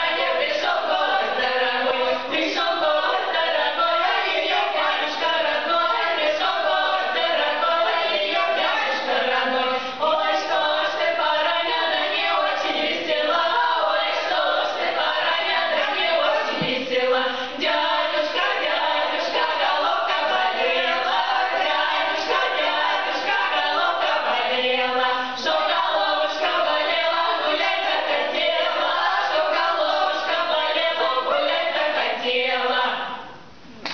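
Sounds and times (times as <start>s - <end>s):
women singing a cappella: 0.0s - 33.5s.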